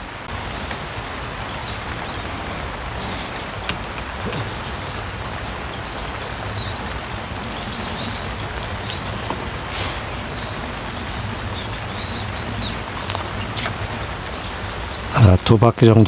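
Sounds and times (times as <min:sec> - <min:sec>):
rain falling on water: 0:00.0 - 0:16.0.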